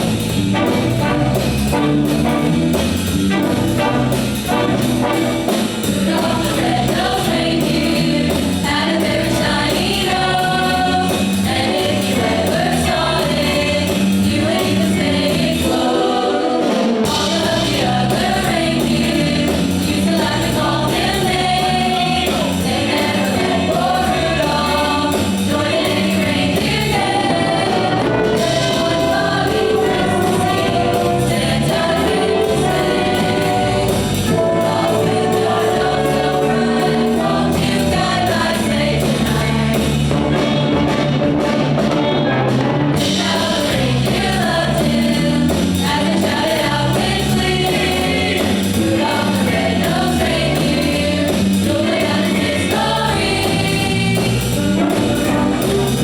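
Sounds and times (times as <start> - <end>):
instrumental accompaniment: 0.0 - 56.0
choir singing: 3.3 - 40.7, 43.0 - 56.0.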